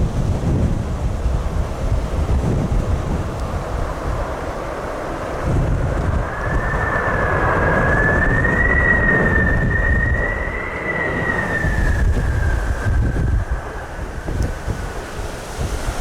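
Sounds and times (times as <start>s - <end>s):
wind rumbling on microphone: 0.0s - 16.0s
jet engines whining: 0.1s - 16.0s.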